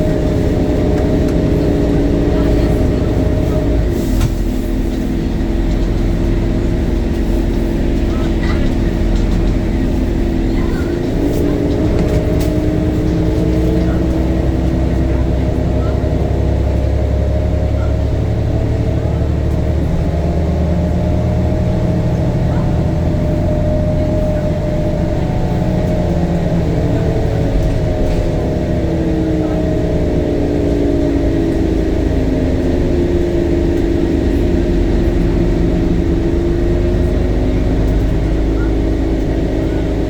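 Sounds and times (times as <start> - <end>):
bus engine rumble with whine: 0.0 - 40.0.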